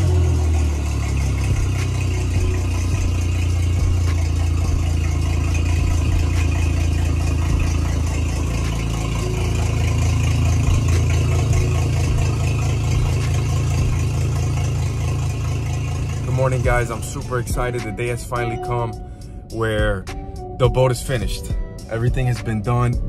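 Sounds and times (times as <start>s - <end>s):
outboard motor idling: 0.0s - 19.8s.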